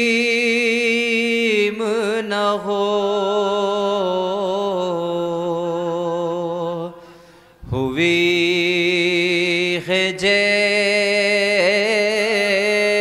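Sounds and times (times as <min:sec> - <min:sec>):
man chanting: 0:00.0 - 0:07.0, 0:07.6 - 0:13.0.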